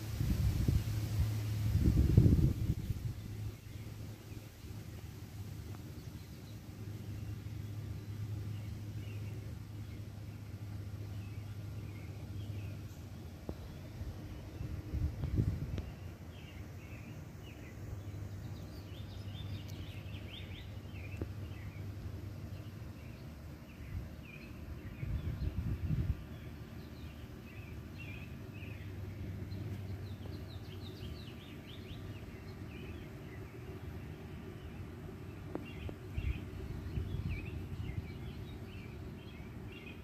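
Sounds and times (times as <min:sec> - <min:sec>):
low microphone rumble: 0:00.0 - 0:40.0
small birds chirping: 0:00.0 - 0:40.0.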